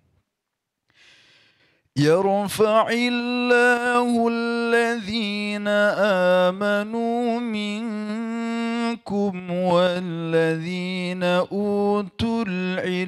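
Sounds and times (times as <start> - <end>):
man chanting melodic recitation: 2.0 - 13.0.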